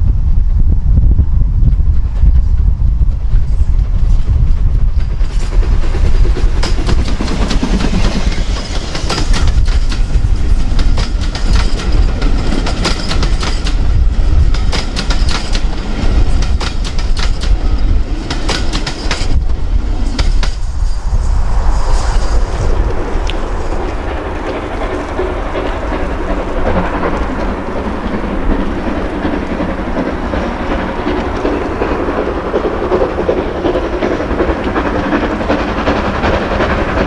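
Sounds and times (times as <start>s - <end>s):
wind rumble on microphone: 0.0s - 37.0s
train wheels clicking over rail joints: 4.7s - 37.0s.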